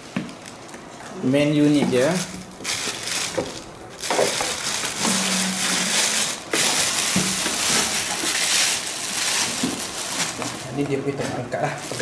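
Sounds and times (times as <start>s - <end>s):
plastic bag crinkling: 1.5s - 12.0s.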